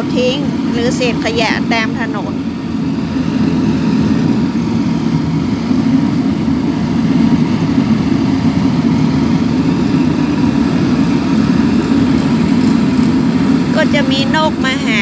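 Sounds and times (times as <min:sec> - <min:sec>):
litter vacuum running: 0:00.0 - 0:15.0.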